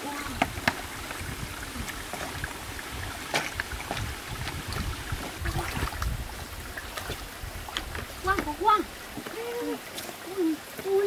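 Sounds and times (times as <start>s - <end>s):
stream trickling over rocks: 0.0s - 11.0s.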